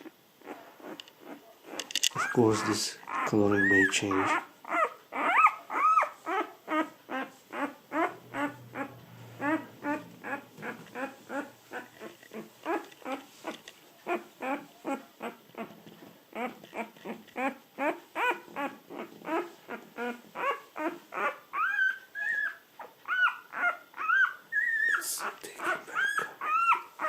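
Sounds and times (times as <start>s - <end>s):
puppy crying in squeaks and whines: 0.4s - 27.0s.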